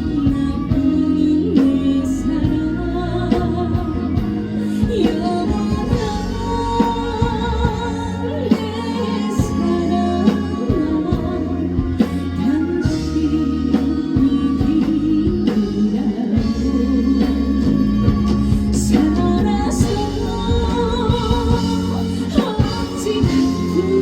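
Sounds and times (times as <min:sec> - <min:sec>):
sustained bass notes: 0:00.0 - 0:24.0
wavering lead melody: 0:00.0 - 0:24.0.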